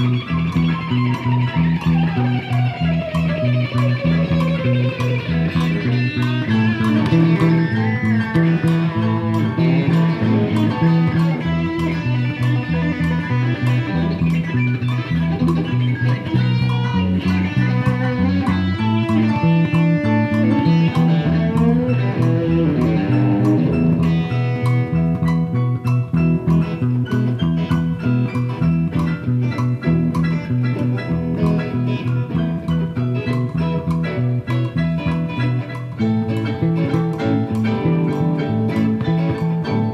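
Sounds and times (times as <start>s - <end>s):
electric guitar lead: 0.0s - 39.9s
walking bass line: 0.0s - 39.9s.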